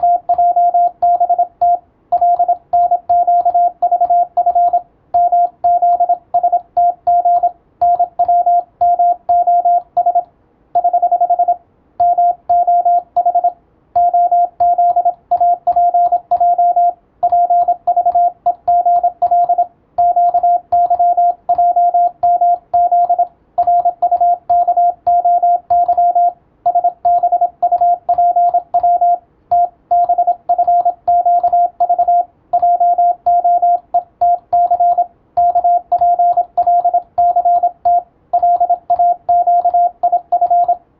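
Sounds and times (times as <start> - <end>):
morse code beeps: 0.0 - 40.8.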